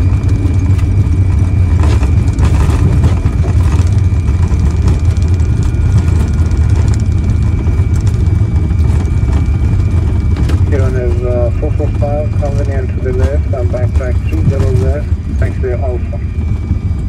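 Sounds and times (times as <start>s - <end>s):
airliner low rumble: 0.0s - 17.0s
high whine: 0.0s - 17.0s.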